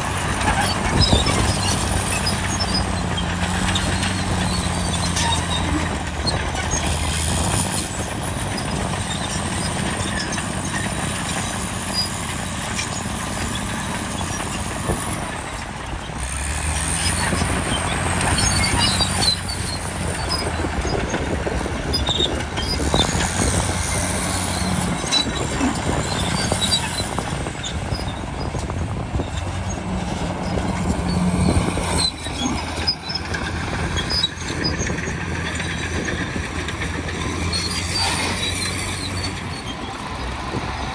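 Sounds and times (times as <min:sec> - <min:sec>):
bulldozer diesel engine: 0:00.0 - 0:40.9
steel tracks squealing: 0:00.0 - 0:40.9.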